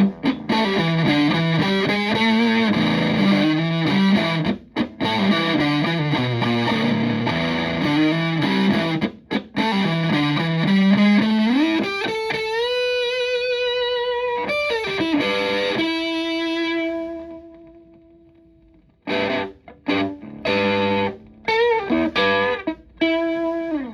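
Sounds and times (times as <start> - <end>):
fuzzy electric guitar riff: 0.0 - 23.9.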